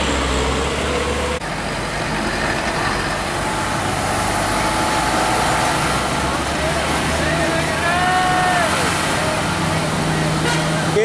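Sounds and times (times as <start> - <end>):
heavy trucks passing: 0.0 - 11.0
road noise: 0.0 - 11.0.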